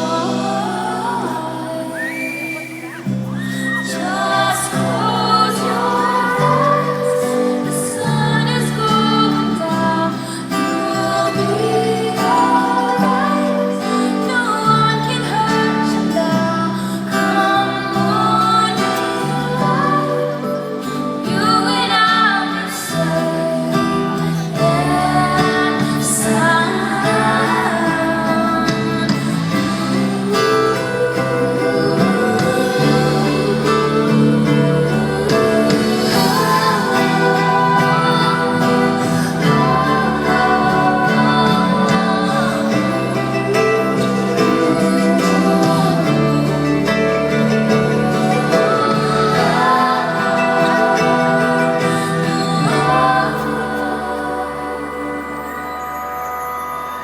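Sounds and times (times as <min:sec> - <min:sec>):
acoustic guitar: 0:00.0 - 0:57.0
woman singing: 0:00.0 - 0:57.0.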